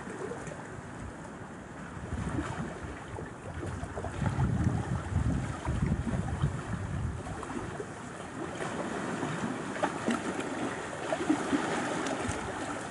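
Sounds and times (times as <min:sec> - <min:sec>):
waves lapping on rocky shore: 0:00.0 - 0:12.9.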